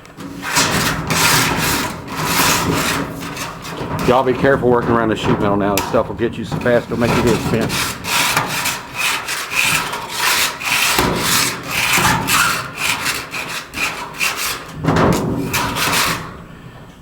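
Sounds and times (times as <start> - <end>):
scrubbing on sheet metal: 0.0 - 16.8.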